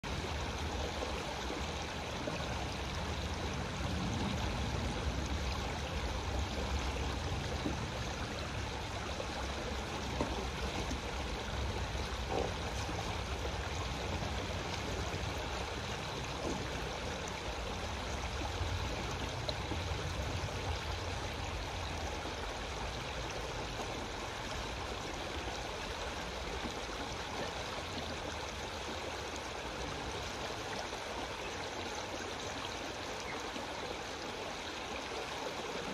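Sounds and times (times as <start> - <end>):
creek water rushing over rock: 0.0 - 35.9.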